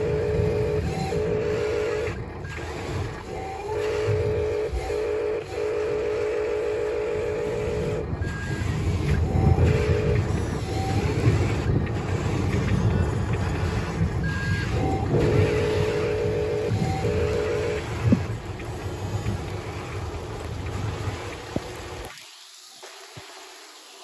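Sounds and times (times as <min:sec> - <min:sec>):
pulsing electronic tone: 0:00.0 - 0:19.9
toy motors and gears whining: 0:00.0 - 0:24.0.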